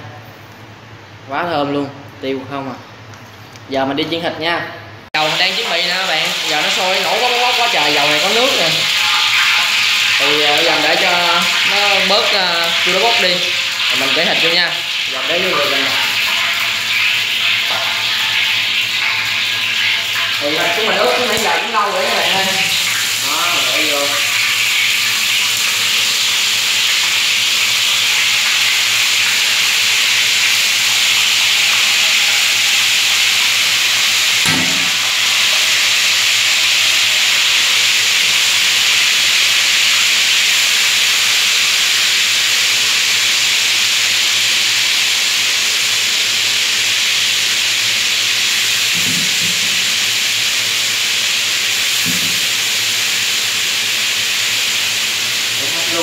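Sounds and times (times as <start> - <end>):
meat sizzling in hot oil: 5.2 - 56.0.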